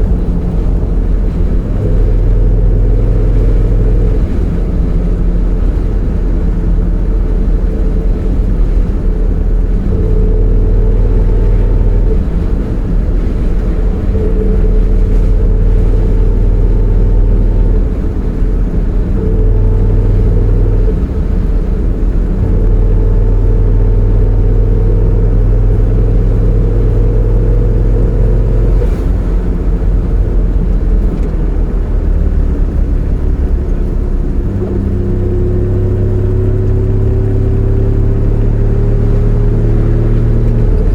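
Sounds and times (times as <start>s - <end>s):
car engine rumbling: 0.0s - 40.9s
thin drivetrain whine: 0.0s - 40.9s.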